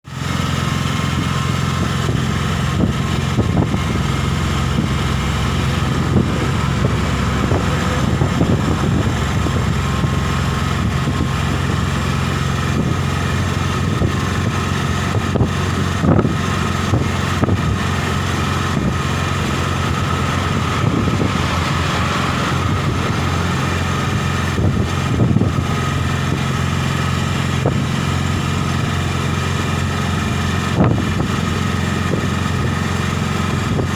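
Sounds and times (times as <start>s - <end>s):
auto rickshaw engine droning: 0.0s - 33.9s.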